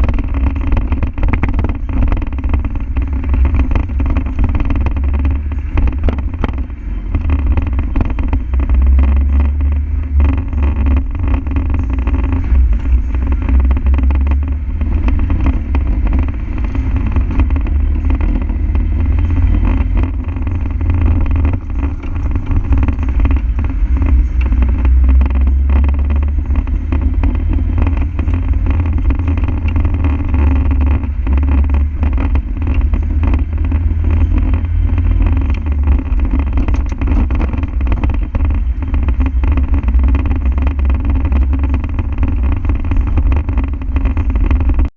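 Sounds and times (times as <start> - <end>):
diesel engine rumbling: 0.0 - 44.9.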